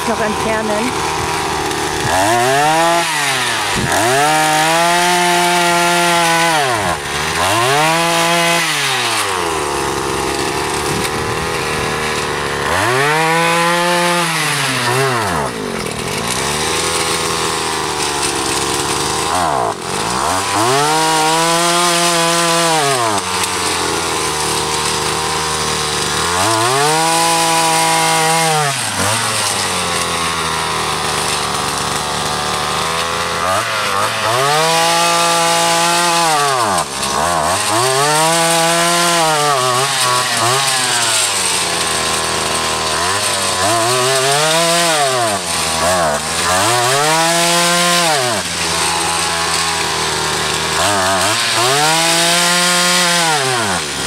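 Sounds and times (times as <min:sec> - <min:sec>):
auger engine revving: 0:00.0 - 0:54.0.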